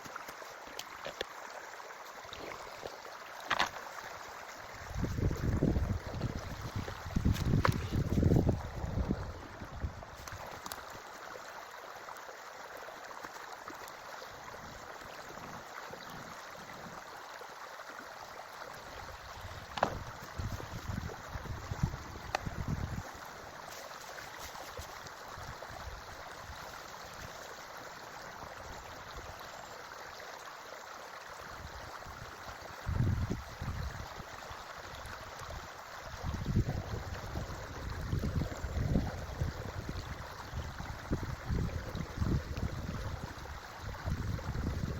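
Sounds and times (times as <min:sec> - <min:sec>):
creek flowing: 0:00.0 - 0:44.9.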